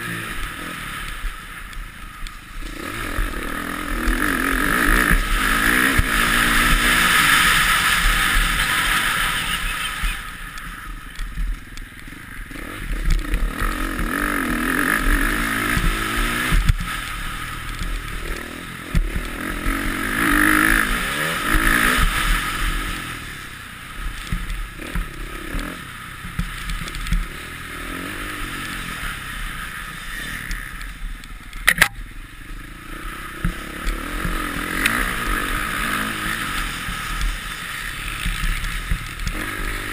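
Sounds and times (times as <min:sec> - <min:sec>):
motocross bike engine revving: 0:00.0 - 0:11.2, 0:12.0 - 0:31.0, 0:31.6 - 0:39.9.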